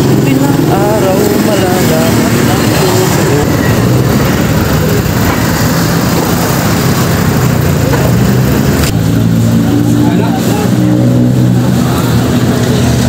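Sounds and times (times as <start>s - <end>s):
motorcycle engines running: 0.0s - 13.0s
road noise: 0.0s - 13.0s.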